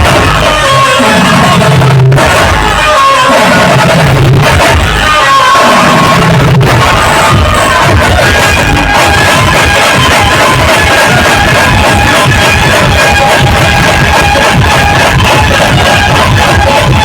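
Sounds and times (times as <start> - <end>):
band music with sliding bass: 0.0 - 17.0.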